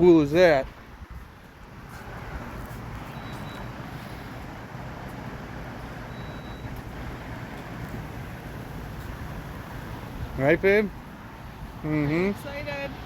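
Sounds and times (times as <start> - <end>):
vehicle road and engine noise: 0.0 - 13.0.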